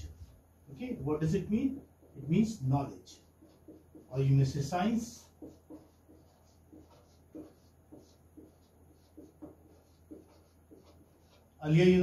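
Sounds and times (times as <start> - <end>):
marker pen on whiteboard: 0.0 - 12.0.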